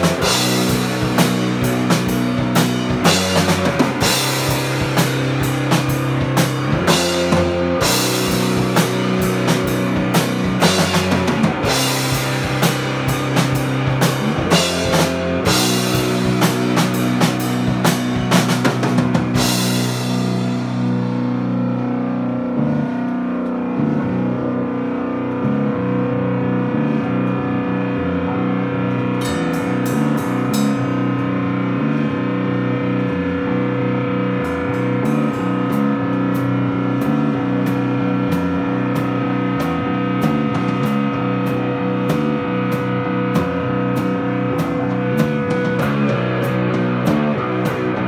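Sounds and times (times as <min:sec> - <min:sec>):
drum kit playing: 0:00.0 - 0:24.7, 0:28.0 - 0:48.0
electric bass: 0:00.0 - 0:48.0
electric guitar: 0:00.0 - 0:48.0.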